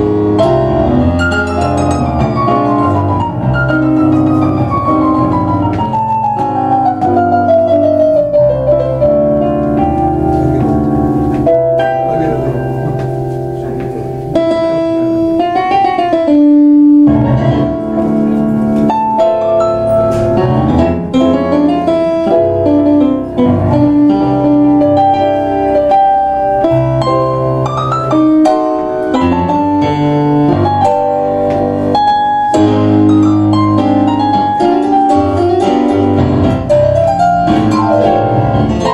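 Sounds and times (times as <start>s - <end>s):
tango piano duet: 0.0s - 38.9s.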